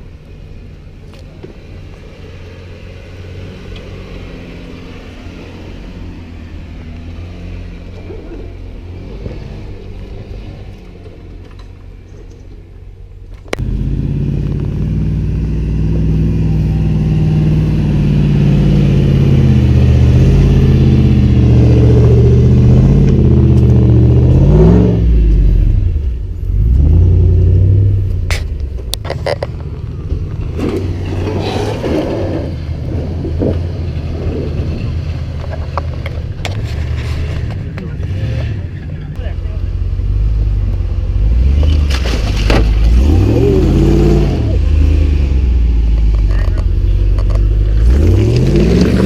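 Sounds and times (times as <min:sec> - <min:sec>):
off-road engine pulling under load: 0:00.0 - 0:12.7, 0:13.4 - 0:49.0.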